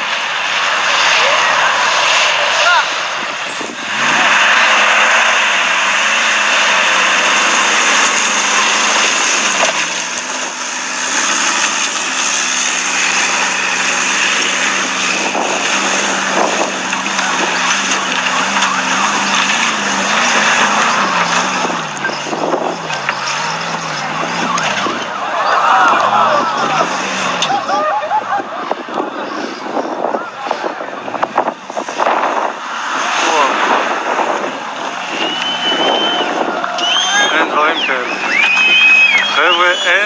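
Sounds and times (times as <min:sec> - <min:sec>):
off-road vehicle engine running: 0:00.0 - 0:40.0.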